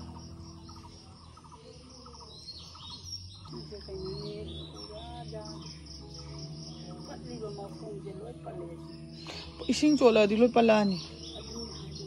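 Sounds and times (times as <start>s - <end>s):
bird chirps: 0.0s - 12.0s
crickets trilling: 0.0s - 12.0s.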